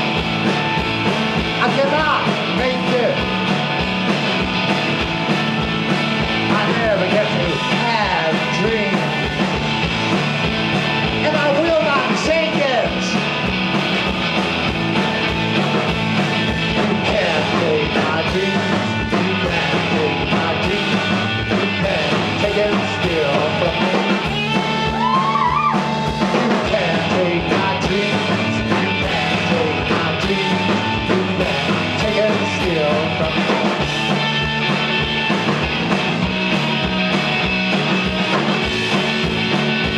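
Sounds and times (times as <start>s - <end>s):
bass guitar: 0.0s - 39.9s
drums: 0.0s - 39.9s
electric guitar lead: 0.0s - 39.9s.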